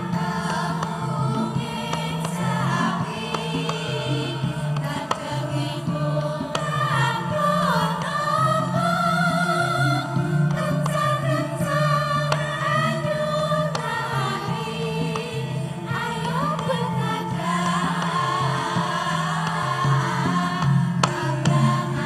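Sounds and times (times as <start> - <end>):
gamelan playing: 0.0 - 22.0
women singing together: 0.0 - 22.0.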